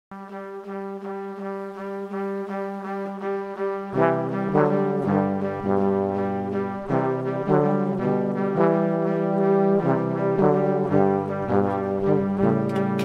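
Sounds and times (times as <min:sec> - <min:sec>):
pulsing chord music: 0:00.1 - 0:13.0.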